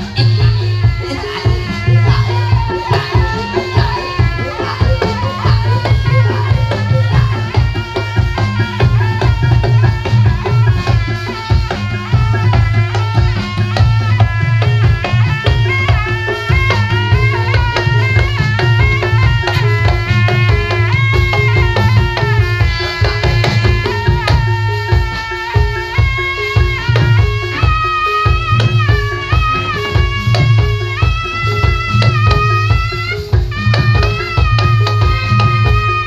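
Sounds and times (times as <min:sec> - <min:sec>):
drums beating fast: 0:00.0 - 0:36.0
sustained melodic instrument: 0:00.0 - 0:36.0.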